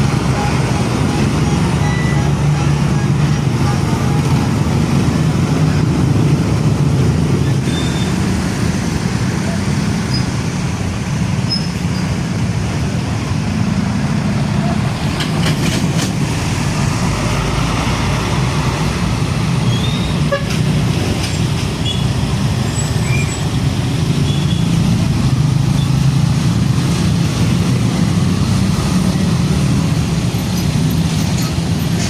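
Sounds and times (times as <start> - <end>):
diesel truck engines: 0.0 - 32.0.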